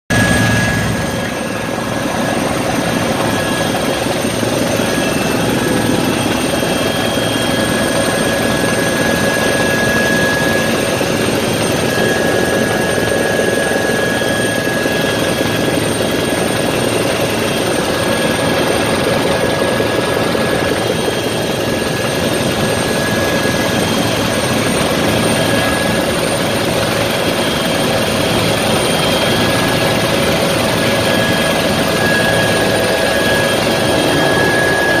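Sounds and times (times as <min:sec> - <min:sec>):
constant high whine: 0:00.1 - 0:35.0
helicopter engine and rotor noise: 0:00.1 - 0:35.0.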